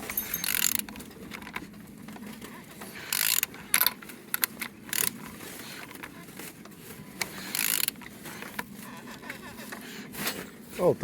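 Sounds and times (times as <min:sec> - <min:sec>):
mechanical clicking and rattling: 0:00.0 - 0:09.8
engine turned over by hand: 0:00.0 - 0:10.6.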